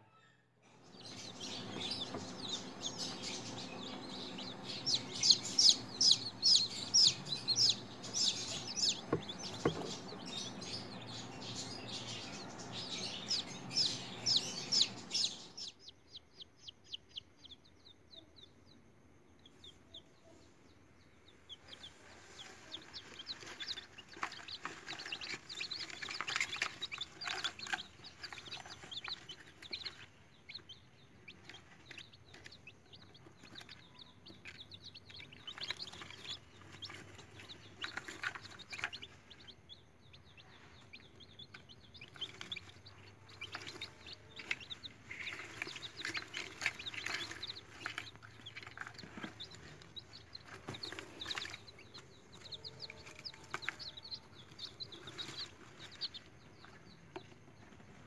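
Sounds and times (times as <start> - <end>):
chicks peeping shrilly: 0.0 - 58.0.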